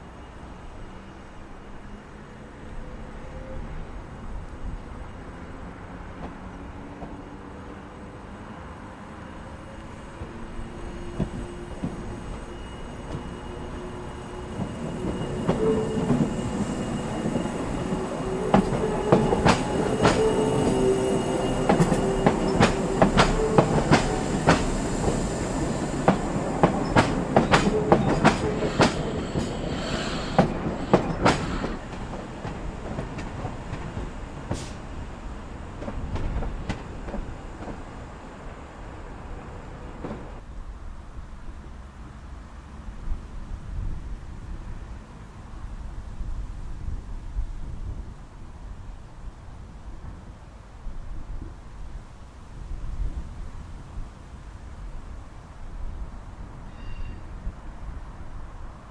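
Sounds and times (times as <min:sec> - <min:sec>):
train running hum: 0:00.0 - 0:58.9.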